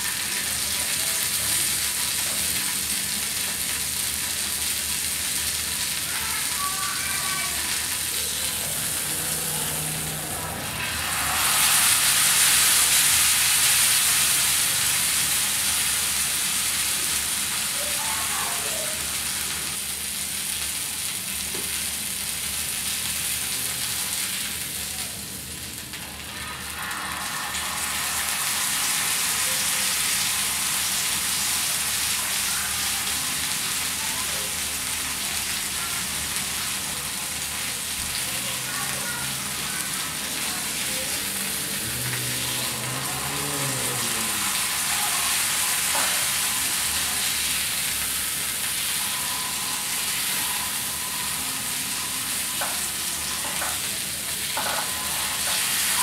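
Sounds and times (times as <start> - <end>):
meat sizzling in hot oil: 0.0 - 56.0.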